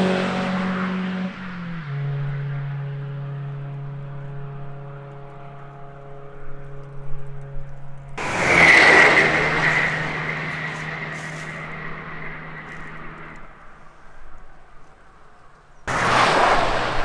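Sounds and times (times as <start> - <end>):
car engine steady note: 0.0 - 17.0
loud car passing with high whine: 0.0 - 17.0.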